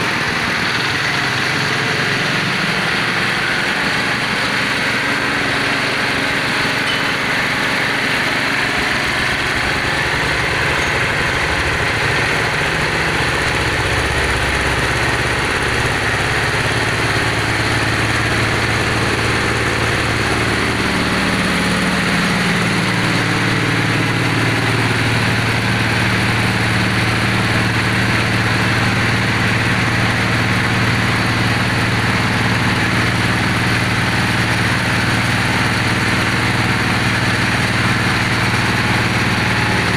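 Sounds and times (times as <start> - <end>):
drilling machine engine humming: 0.0 - 39.9.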